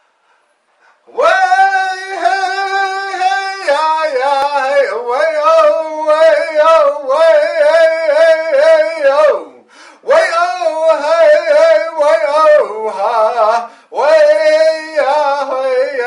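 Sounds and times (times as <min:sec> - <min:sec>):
man singing long wavering notes: 0:01.1 - 0:16.0.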